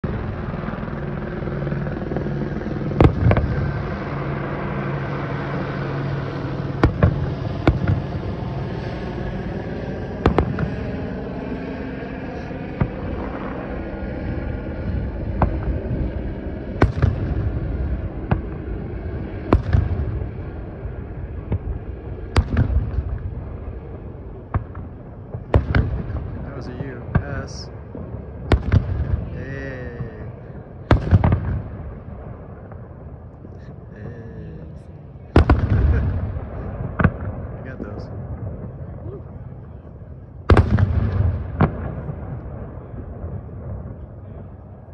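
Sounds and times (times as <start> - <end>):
low rumble: 0.0 - 44.9
distant fireworks booming: 2.0 - 44.9.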